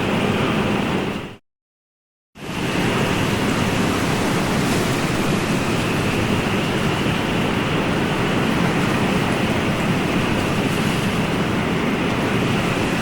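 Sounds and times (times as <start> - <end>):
ocean surf rushing: 2.4 - 13.0.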